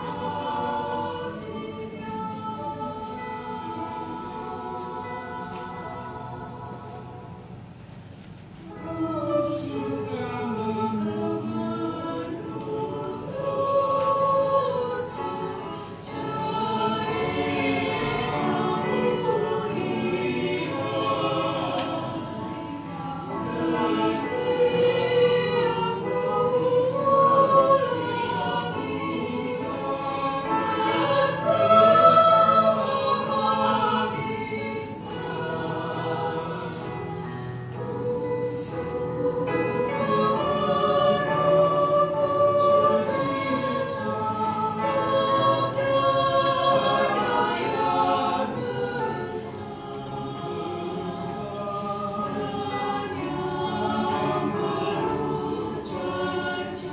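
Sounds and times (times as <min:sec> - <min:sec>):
choir singing a hymn: 0:00.0 - 0:56.9.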